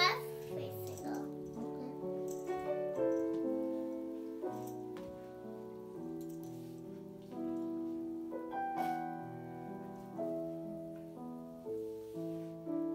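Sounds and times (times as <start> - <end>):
slow piano music: 0.0 - 12.9.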